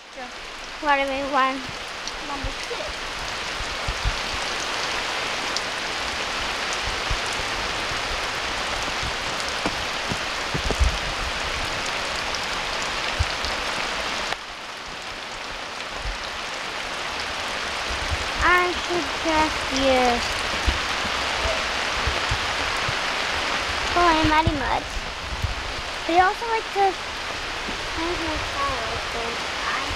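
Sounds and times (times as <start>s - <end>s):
rain pattering: 0.0s - 29.9s.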